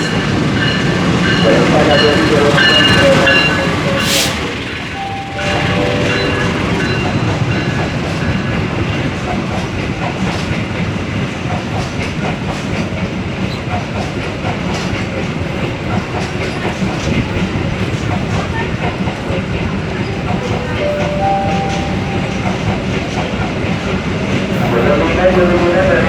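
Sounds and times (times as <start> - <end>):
passing train rumble: 0.0 - 26.0.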